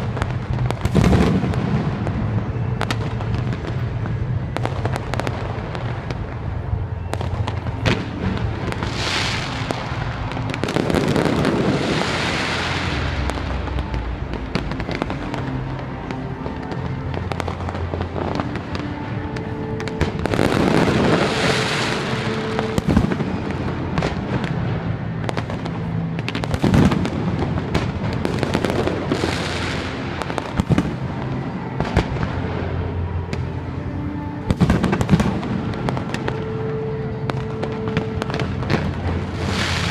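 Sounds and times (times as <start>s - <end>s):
fireworks bangs: 0.0s - 39.9s
fireworks crackling and hissing: 0.0s - 39.9s
music playing: 0.0s - 39.9s.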